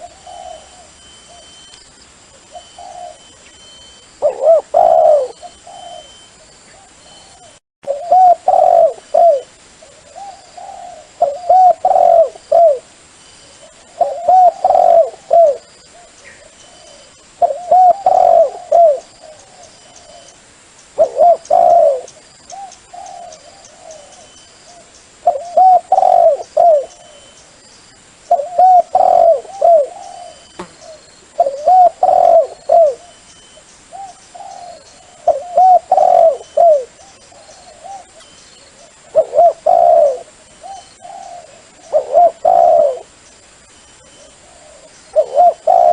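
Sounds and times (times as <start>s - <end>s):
dove cooing: 0.0s - 1.7s, 2.4s - 12.9s, 13.5s - 20.4s, 21.0s - 27.3s, 28.3s - 43.2s, 44.1s - 45.9s.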